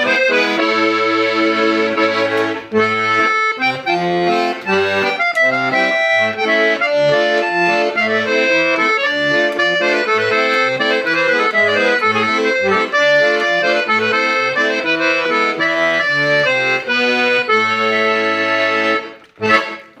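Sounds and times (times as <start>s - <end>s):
piano accordion playing a tune: 0.0s - 20.0s.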